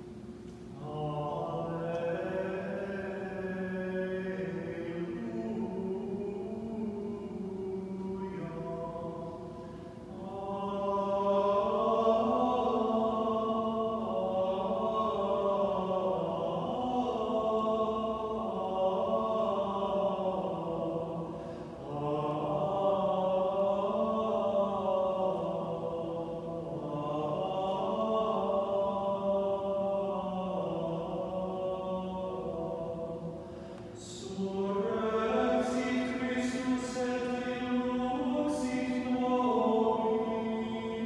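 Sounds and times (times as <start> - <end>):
slow sung chant: 0.0 - 41.0.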